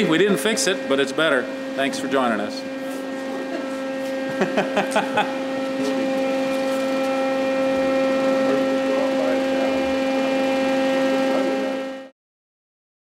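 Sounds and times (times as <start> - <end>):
mechanical hum with whine: 0.0 - 12.2.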